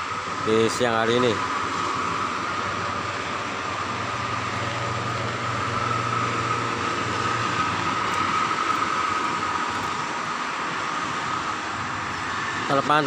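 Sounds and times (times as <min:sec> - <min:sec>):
heavy truck passing: 0:00.0 - 0:13.0
highway traffic: 0:00.0 - 0:13.0.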